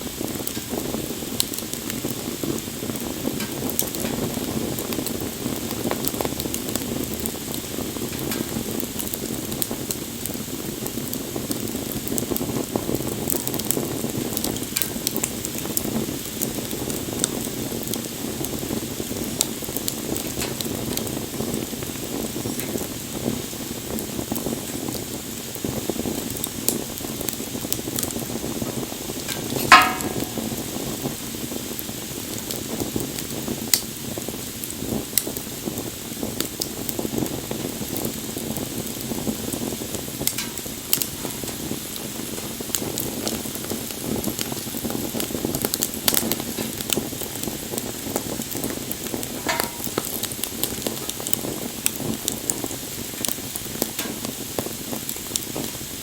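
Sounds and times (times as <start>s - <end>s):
fire popping: 0.0s - 56.0s
wood fire crackling: 0.0s - 56.0s.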